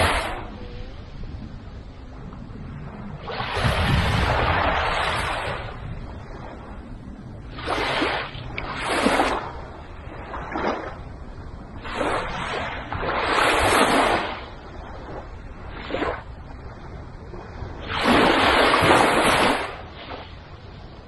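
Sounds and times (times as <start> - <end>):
small waves washing on beach: 0.0 - 21.0.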